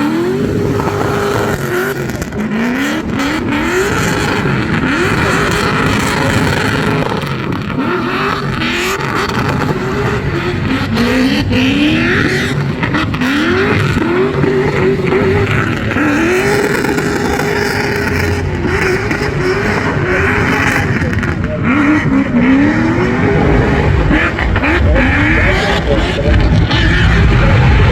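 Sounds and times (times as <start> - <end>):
engine revving hard: 0.0 - 27.9.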